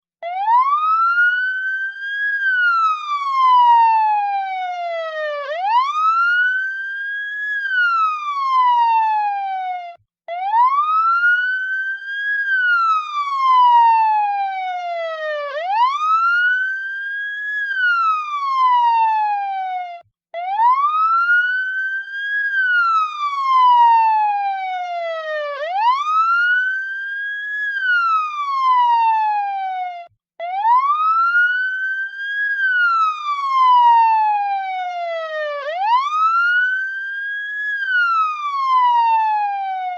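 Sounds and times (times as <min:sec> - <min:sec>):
police siren wailing: 0:00.2 - 0:39.9.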